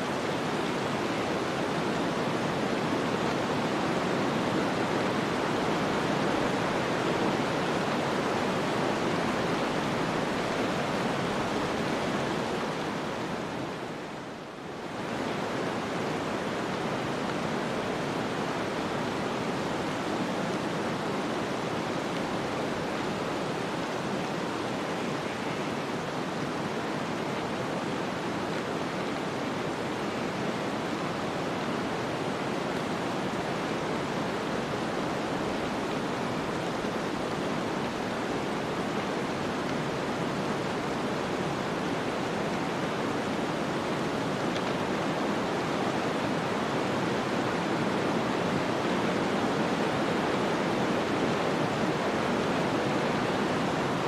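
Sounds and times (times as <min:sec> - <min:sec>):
rushing snowstorm wind: 0:00.0 - 0:54.0.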